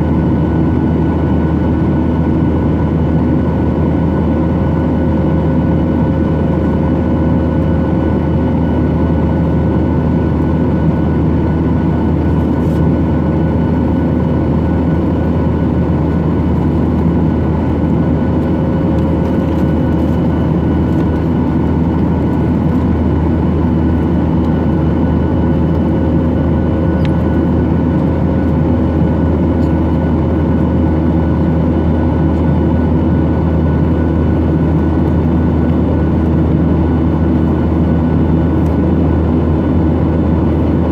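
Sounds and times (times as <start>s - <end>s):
jet engine cabin drone: 0.0s - 40.9s.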